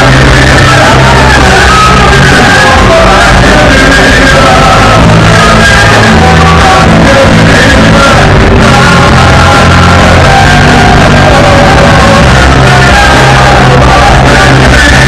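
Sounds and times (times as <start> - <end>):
live worship band: 0.0 - 15.0
people singing and shouting: 0.0 - 15.0.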